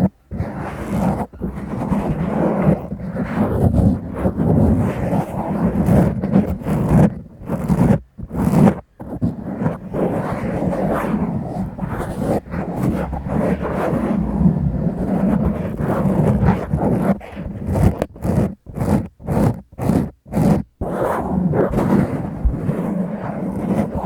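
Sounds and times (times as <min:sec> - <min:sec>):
scratching on microphone windscreen: 0:00.0 - 0:24.0.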